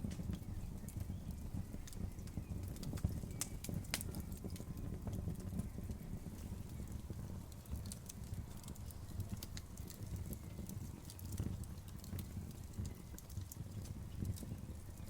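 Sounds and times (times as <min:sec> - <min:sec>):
fire snapping and popping: 0:00.0 - 0:15.0
low rumble of flames: 0:00.0 - 0:15.0.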